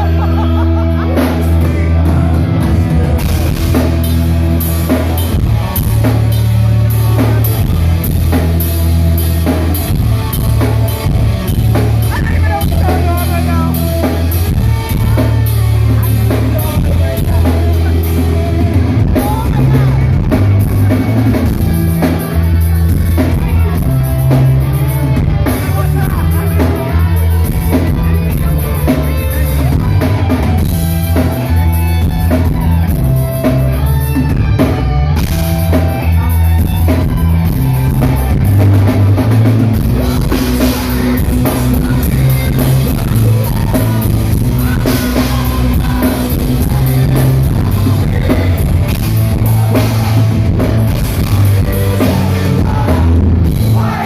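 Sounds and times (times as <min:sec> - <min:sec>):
lead singer's voice: 0:00.0 - 0:54.0
live rock band playing: 0:00.0 - 0:54.0.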